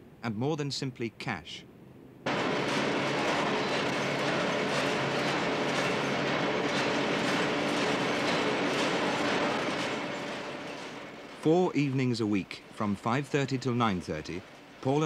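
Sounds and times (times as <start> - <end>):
low machine hum: 2.3 - 15.0
machines clattering: 2.3 - 15.0.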